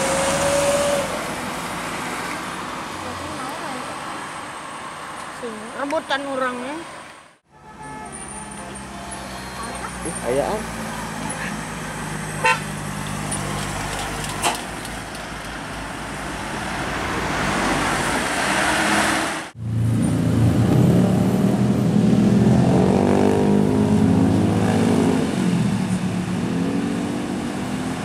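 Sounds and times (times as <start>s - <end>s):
minibus engines passing: 0.0s - 28.0s.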